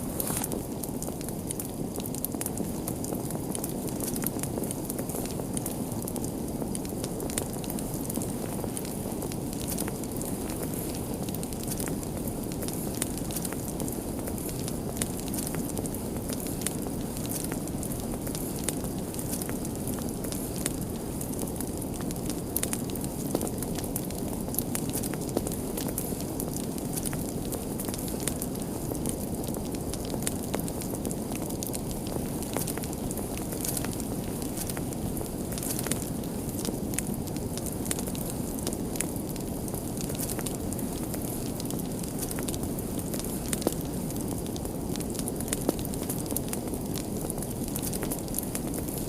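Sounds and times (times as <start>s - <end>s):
fire crackling in a fireplace: 0.0s - 49.0s.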